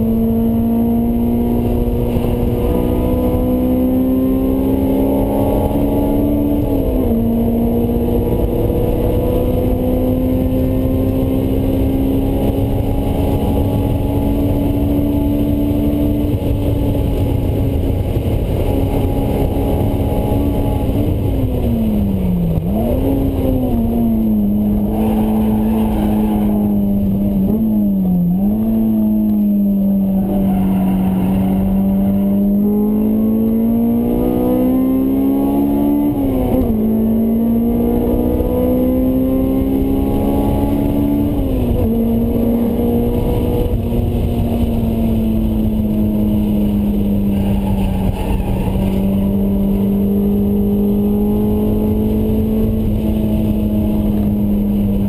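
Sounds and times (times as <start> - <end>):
car engine at speed: 0.0 - 55.0
wind and road noise: 0.0 - 55.0.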